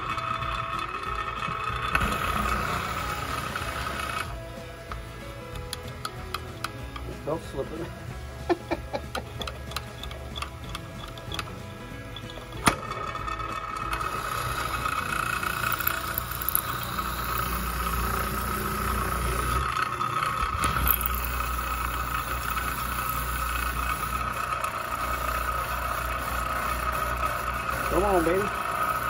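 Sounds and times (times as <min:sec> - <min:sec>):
electric drill whining: 0:00.0 - 0:07.1, 0:08.1 - 0:29.0.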